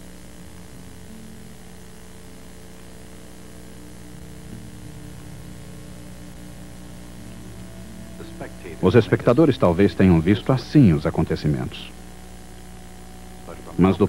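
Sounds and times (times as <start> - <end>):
low electronic drone: 0.0 - 14.0.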